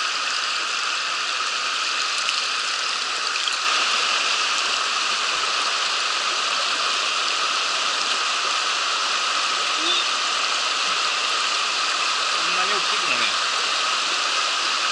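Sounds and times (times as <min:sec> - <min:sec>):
stream water rushing: 0:00.0 - 0:14.9.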